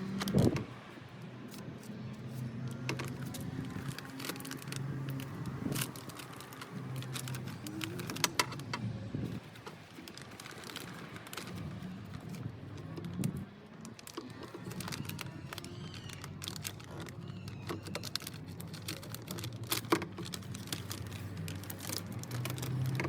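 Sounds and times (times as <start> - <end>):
hand tools and plastic trim rattling: 1.5 - 23.0.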